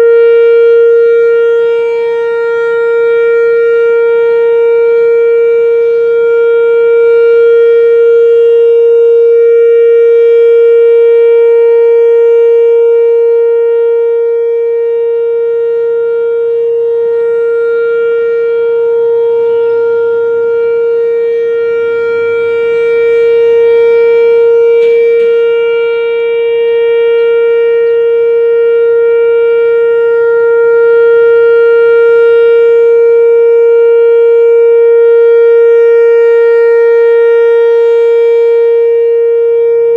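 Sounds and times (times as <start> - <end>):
electronic warning siren steady tone: 0.0 - 39.9.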